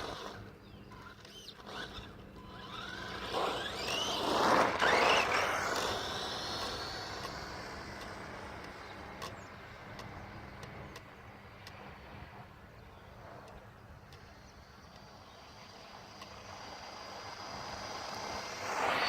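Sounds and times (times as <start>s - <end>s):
rc car motor whining: 0.0s - 11.0s, 14.0s - 19.0s.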